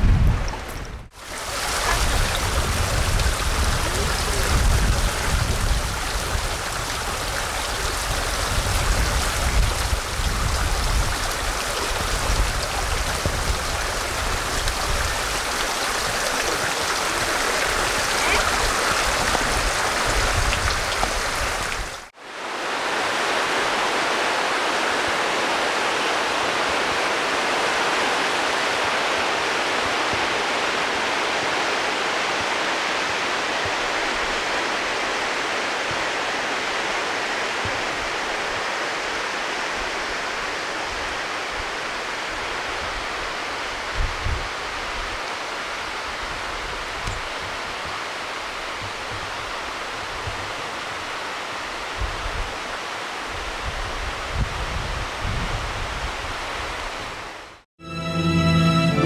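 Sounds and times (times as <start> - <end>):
stream water rushing: 0.0 - 57.6.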